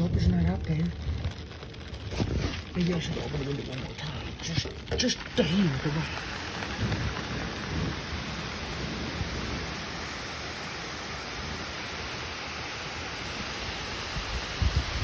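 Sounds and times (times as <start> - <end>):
low rumbling: 0.0 - 15.0
steady rain falling: 0.0 - 15.0.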